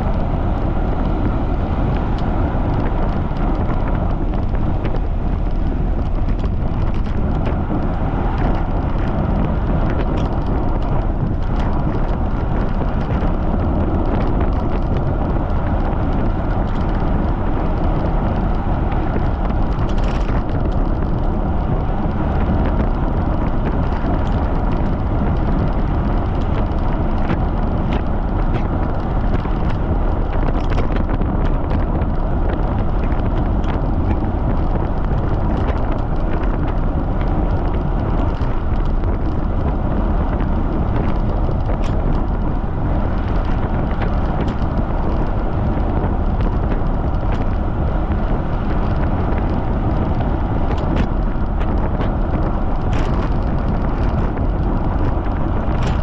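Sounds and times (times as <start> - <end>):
faint ticks and rattles: 0.0 - 56.0
wind buffeting microphone: 0.0 - 56.0.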